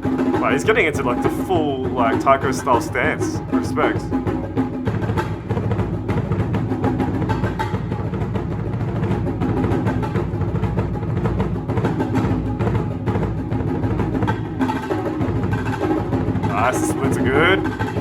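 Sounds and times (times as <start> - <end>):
marimba ensemble music: 0.0 - 18.0.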